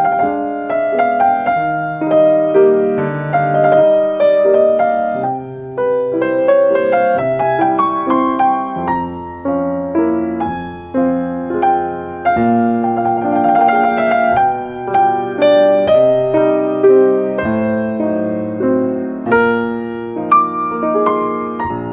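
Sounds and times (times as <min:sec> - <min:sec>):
solo piano music: 0:00.0 - 0:21.9.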